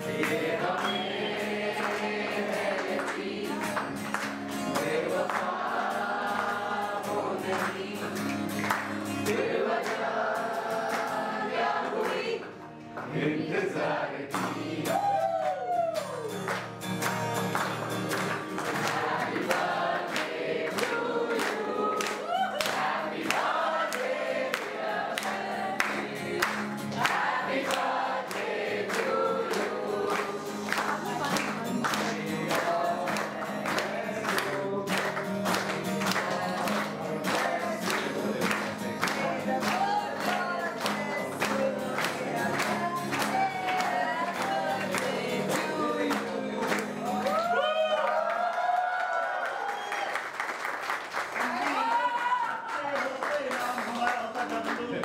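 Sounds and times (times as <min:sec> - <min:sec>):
group singing: 0:00.0 - 0:15.2, 0:18.2 - 0:47.5
acoustic guitar: 0:00.0 - 0:47.8
rhythmic hand-clapping: 0:00.0 - 0:55.0.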